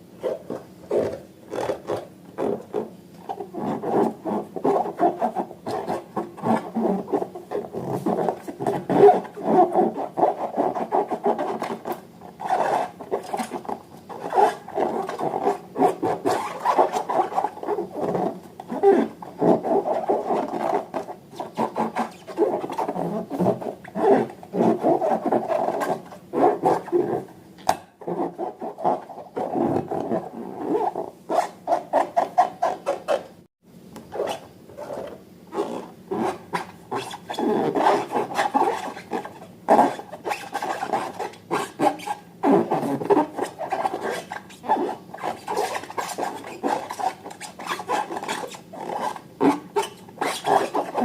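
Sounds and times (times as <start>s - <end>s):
hands rubbing balloons and slime: 0.2s - 27.3s, 34.2s - 51.0s.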